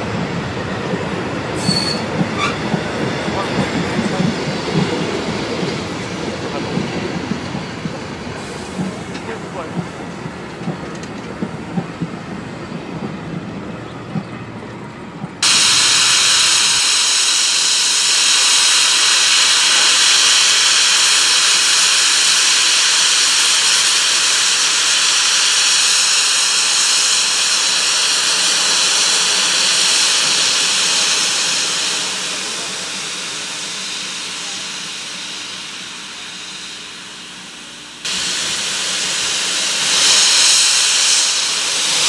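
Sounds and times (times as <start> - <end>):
steam locomotive hissing: 0.0 - 14.2, 15.2 - 42.0
railway wheels rolling: 0.0 - 42.0.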